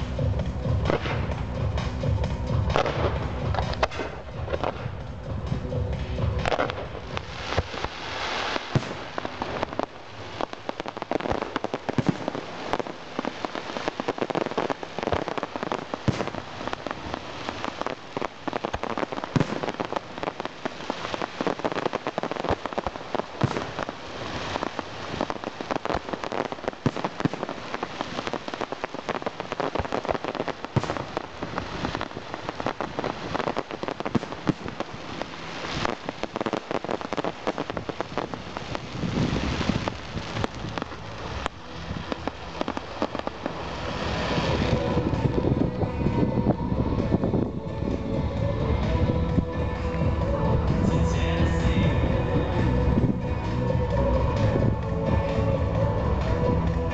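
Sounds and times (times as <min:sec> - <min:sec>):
fireworks crackling: 0:00.0 - 0:56.9.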